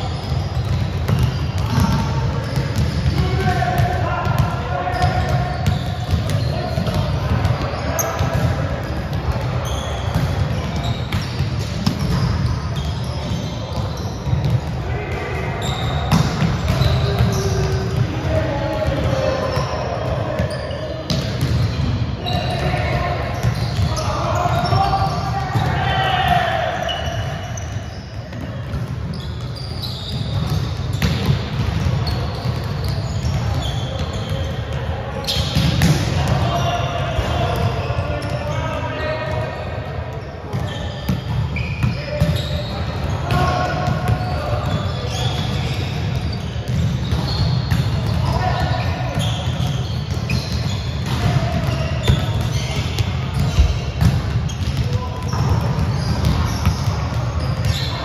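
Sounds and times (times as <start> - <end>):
shoe squeaks: 0.0 - 3.3, 4.9 - 8.2, 9.6 - 14.6, 15.6 - 18.0, 19.4 - 25.2, 26.0 - 35.7, 40.2 - 58.0
players' voices: 0.0 - 58.0
volleyballs hit and bouncing: 0.0 - 58.0.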